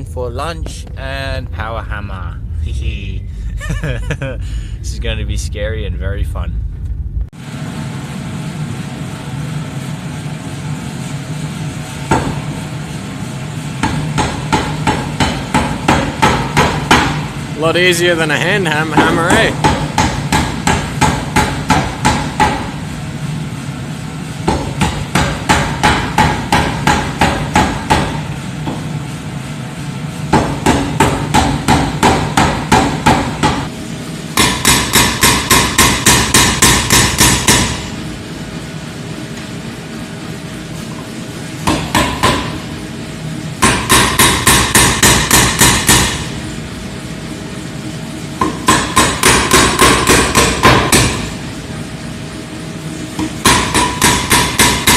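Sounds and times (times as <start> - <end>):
steady machine hum: 0.0 - 54.9.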